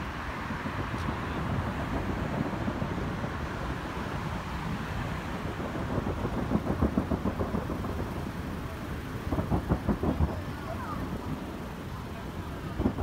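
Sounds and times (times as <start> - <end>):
distant fireworks rumble: 0.0 - 13.0.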